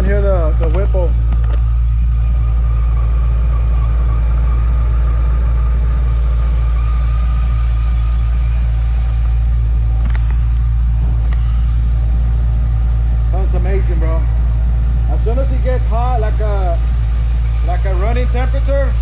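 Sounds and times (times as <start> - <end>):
engine idle rumble: 0.0 - 19.0
supercharger whine: 0.0 - 19.0.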